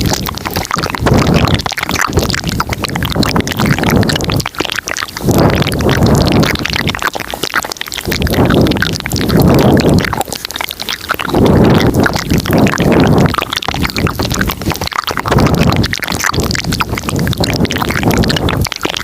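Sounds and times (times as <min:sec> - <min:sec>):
wet mouth clicks and smacks: 0:00.0 - 0:19.0.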